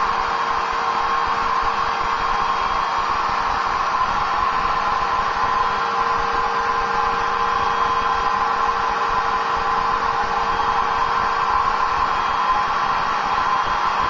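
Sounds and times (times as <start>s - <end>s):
electric blower rushing air: 0.0s - 14.0s.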